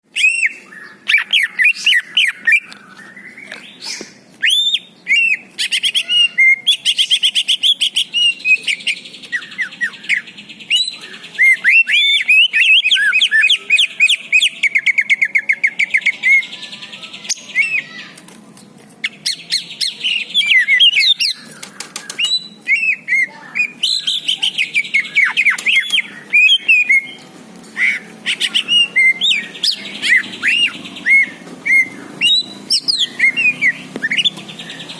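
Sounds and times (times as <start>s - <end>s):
bird singing chirps and trills: 0.1s - 34.9s.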